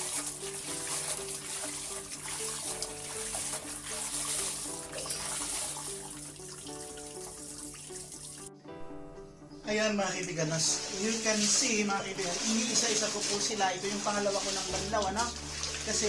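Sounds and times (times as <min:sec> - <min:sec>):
water running from a tap: 0:00.0 - 0:08.5, 0:10.7 - 0:16.0
background music: 0:00.0 - 0:16.0.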